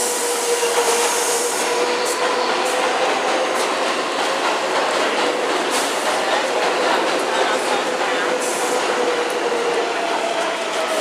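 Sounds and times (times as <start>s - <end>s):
subway train rushing past: 0.0s - 11.0s.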